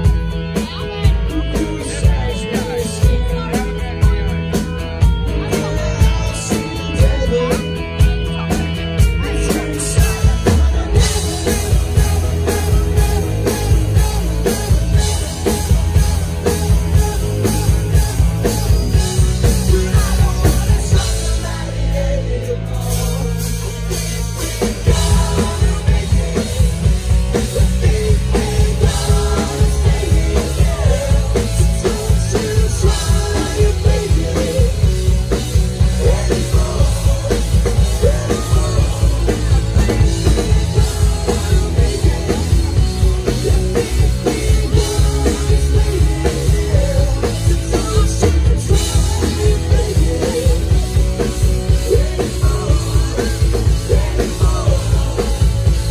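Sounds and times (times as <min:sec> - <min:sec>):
drum kit beat: 0:00.0 - 0:55.9
rock band playing live: 0:00.0 - 0:55.9.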